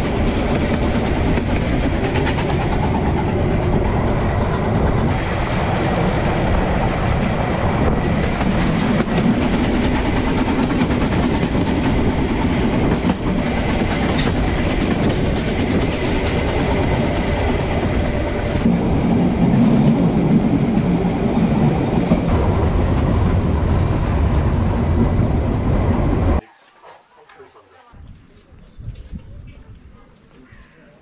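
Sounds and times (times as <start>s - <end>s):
train wheels rumbling and rattling: 0.0s - 26.4s.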